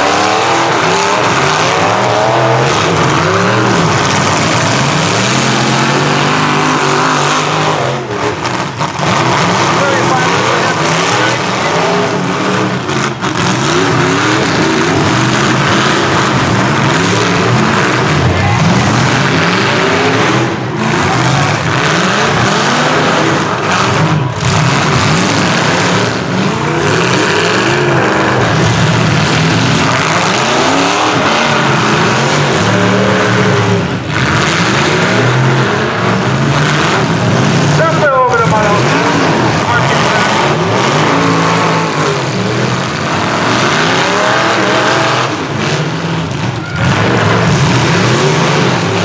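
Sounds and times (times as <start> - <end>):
engines revving hard: 0.0 - 49.0.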